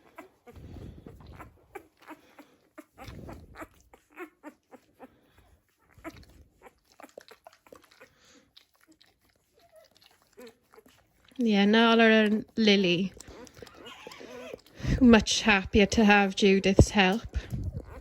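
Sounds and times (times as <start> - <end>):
puppies squeaking and grunting: 0.0 - 18.0
wet licking and mouthing: 0.0 - 18.0.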